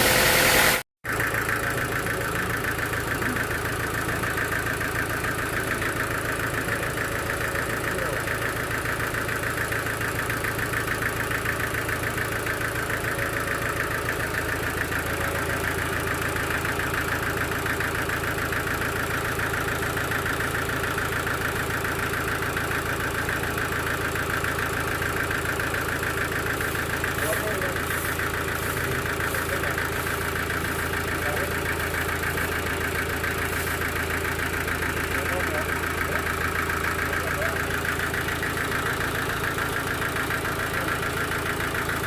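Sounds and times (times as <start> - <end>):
sawmill engine chugging: 0.0 - 42.0.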